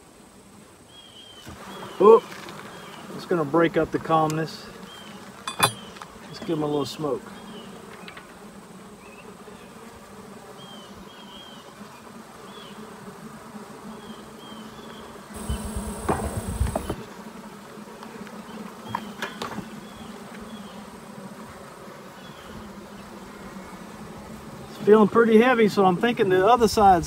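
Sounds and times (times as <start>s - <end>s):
honey bees humming: 0.1s - 27.0s.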